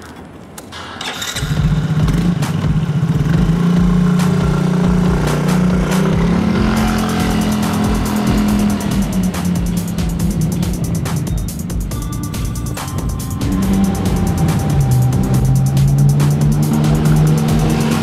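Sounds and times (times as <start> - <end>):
motor scooter engine: 1.0 - 18.0.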